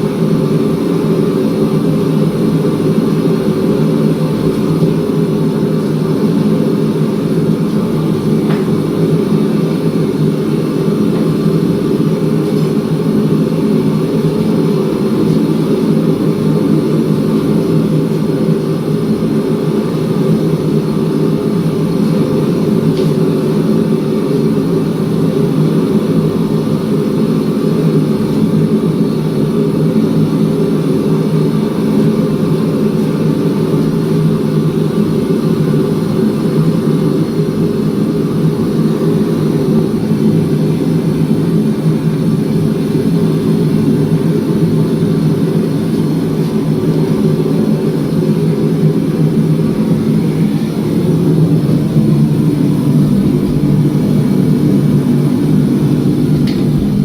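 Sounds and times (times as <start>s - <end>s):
shop machinery droning: 0.0s - 57.0s.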